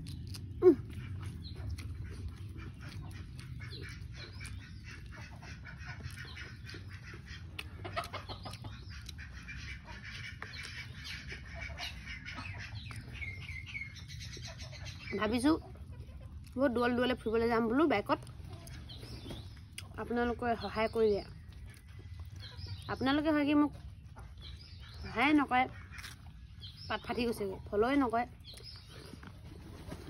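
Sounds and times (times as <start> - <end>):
person chewing: 0.0 - 15.1, 15.7 - 22.9, 25.8 - 26.8, 28.4 - 29.5
chickens clucking: 0.0 - 30.0.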